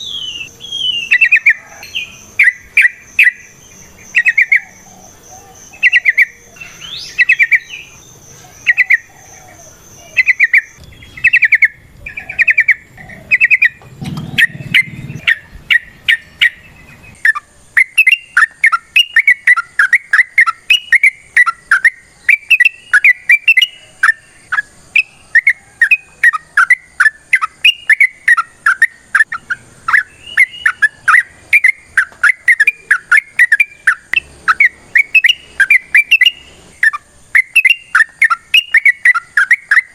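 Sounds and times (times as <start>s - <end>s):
bird rapid chattering song: 0.0s - 39.9s
bird singing bubbling phrases: 0.0s - 39.9s.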